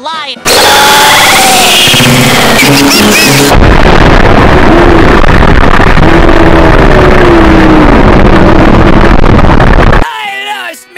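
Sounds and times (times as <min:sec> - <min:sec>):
harsh distorted noise: 0:00.4 - 0:10.6.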